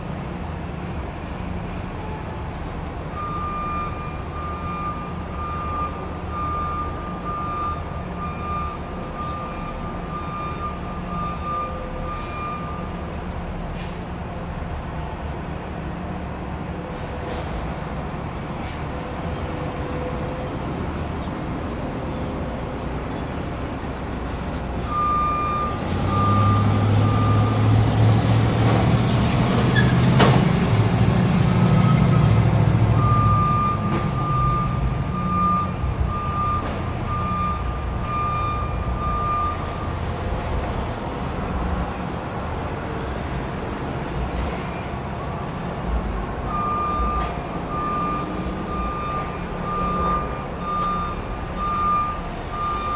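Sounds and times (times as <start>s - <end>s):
truck backup alarm beeping: 1.8s - 14.1s, 17.8s - 52.9s.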